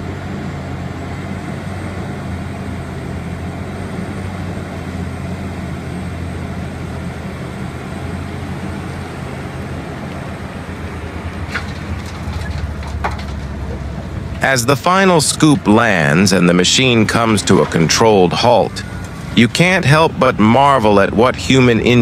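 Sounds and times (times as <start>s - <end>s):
excavator diesel engine drone: 0.0s - 22.0s.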